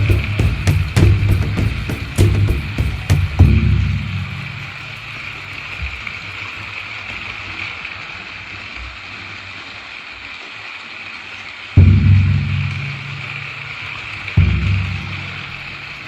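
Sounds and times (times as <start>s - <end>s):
background hiss: 0.0s - 9.7s, 11.8s - 16.0s.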